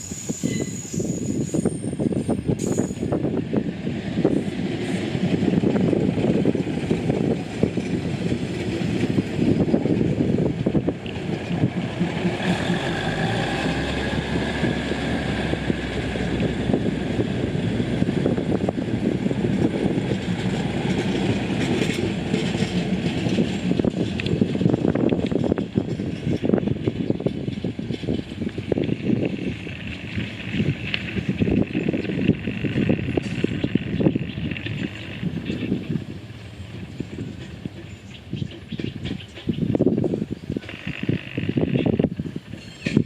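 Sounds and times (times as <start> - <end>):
train rumbling on track: 0.0 - 43.0.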